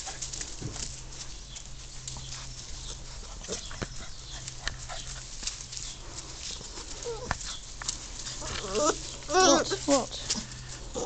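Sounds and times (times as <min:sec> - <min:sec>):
rustling in grass: 0:00.0 - 0:11.0
steady low hum: 0:00.0 - 0:11.0
puppies squeaking and grunting: 0:01.6 - 0:11.0.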